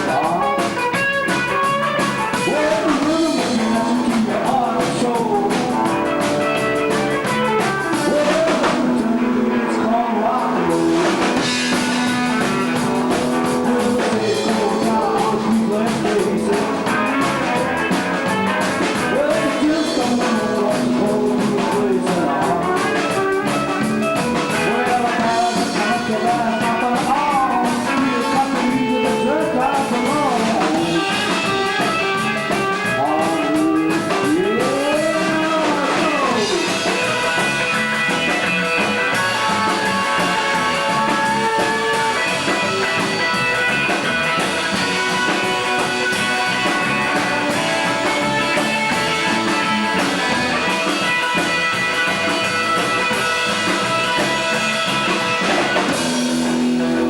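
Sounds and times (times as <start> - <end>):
person singing: 0.0 - 56.0
drums: 0.0 - 57.0
electric guitar: 0.0 - 57.0.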